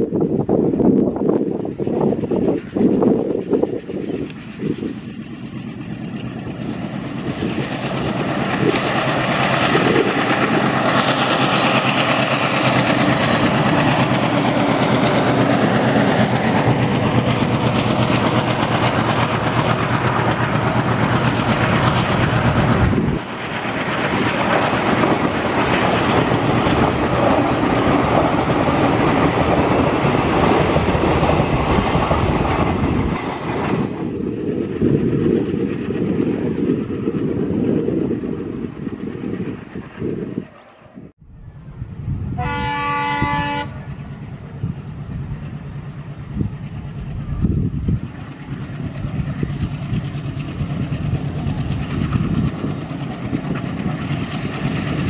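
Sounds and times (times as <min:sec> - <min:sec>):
diesel locomotive engine: 0:00.0 - 0:55.0
train wheels clattering on rails: 0:01.4 - 0:40.0, 0:43.2 - 0:55.0.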